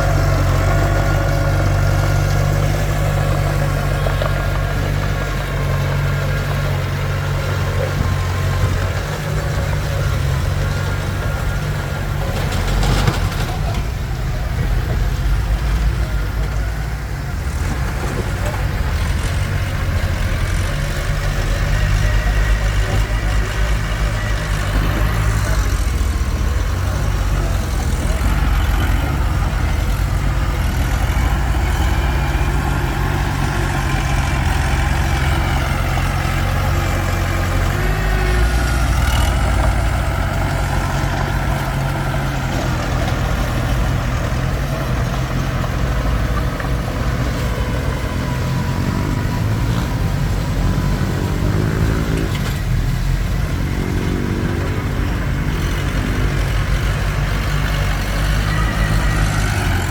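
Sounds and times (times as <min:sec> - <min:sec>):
bulldozer diesel engine droning: 0:00.0 - 0:59.9.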